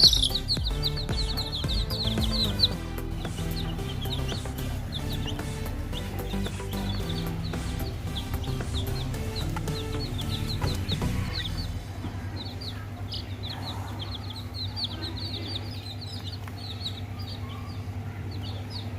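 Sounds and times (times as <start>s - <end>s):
chicks peeping: 0.0s - 18.9s
steady low hum: 0.0s - 18.9s.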